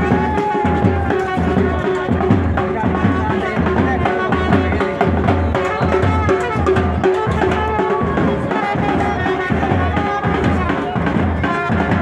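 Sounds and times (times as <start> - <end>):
music with drum beat and melody: 0.0 - 12.0.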